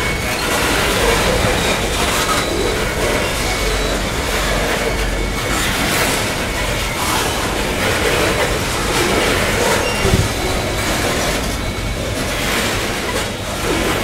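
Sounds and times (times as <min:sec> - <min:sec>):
freight train wheels rumbling on rail: 0:00.0 - 0:14.0
train trucks clattering: 0:00.0 - 0:14.0.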